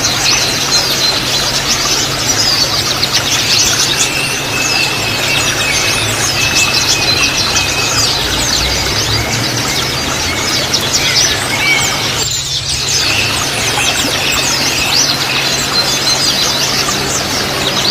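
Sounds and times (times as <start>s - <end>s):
birds chattering: 0.0s - 17.9s.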